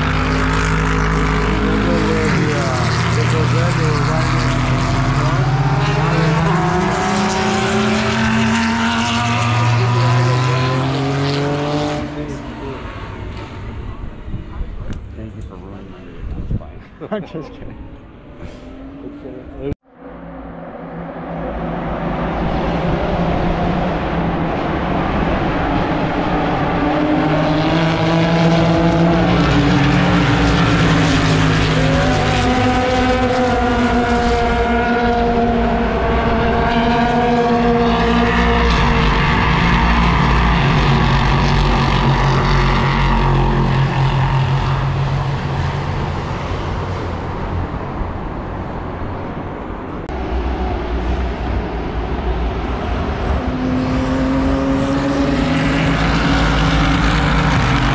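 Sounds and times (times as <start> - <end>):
race cars passing at speed: 0.0 - 57.9.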